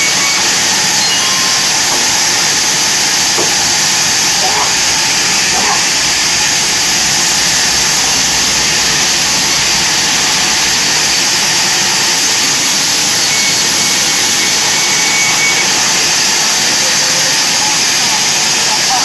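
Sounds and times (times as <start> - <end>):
band saw cutting wood: 0.0 - 19.0.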